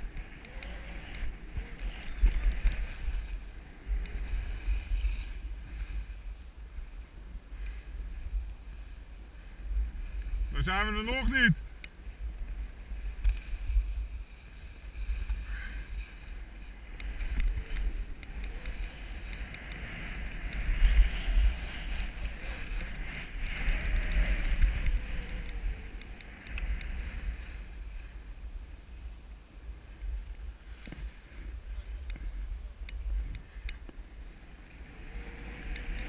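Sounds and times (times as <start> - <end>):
skis scraping over snow: 0.0 - 36.0
wind buffeting microphone: 0.0 - 36.0.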